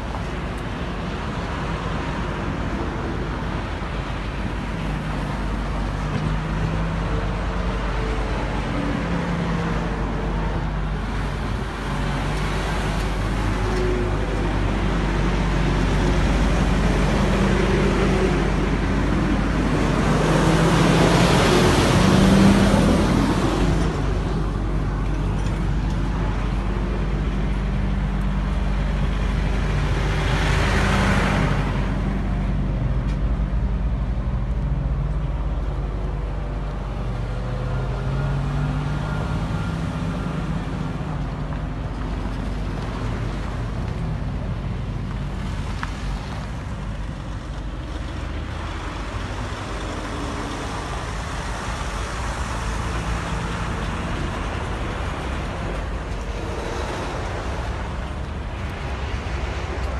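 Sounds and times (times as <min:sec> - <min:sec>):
highway traffic passing: 0:00.0 - 0:59.9.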